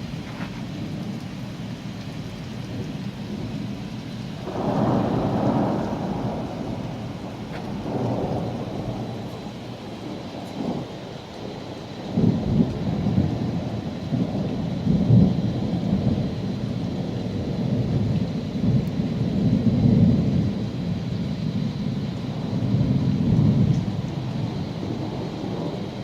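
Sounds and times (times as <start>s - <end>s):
rolling thunder: 0.0s - 26.0s
steady rain: 0.0s - 26.0s.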